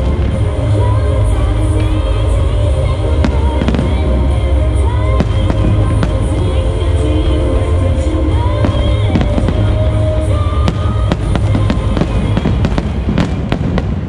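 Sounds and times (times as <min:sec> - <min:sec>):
constant low rumble: 0:00.0 - 0:14.0
fireworks bangs and crackles: 0:00.0 - 0:14.0
music playing: 0:00.0 - 0:14.0.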